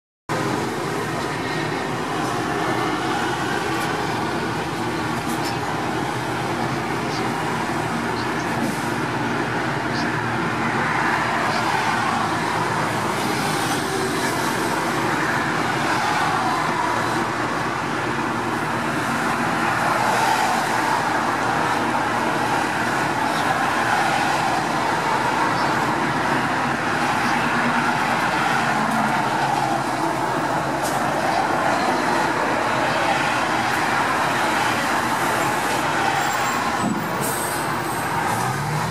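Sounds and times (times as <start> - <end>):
road traffic passing: 0.3 - 38.9.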